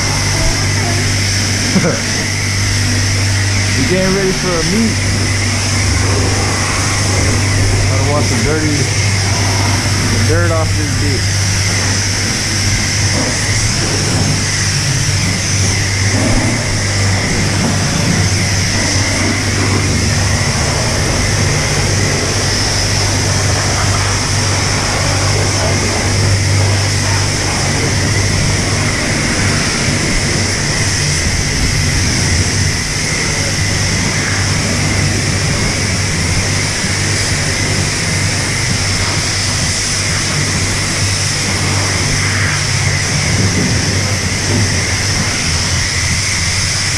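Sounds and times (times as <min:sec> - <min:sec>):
pressure washer spraying water: 0:00.0 - 0:46.9
steady low hum: 0:00.0 - 0:46.9.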